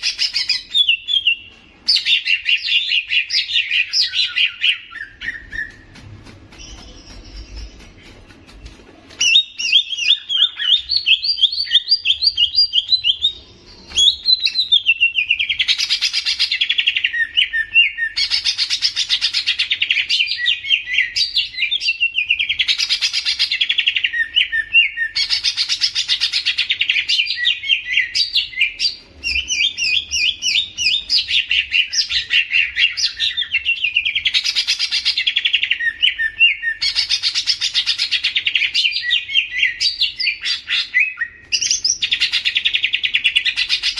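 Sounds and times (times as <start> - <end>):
bird singing high chirping trills: 6.5 - 8.2, 9.2 - 43.9.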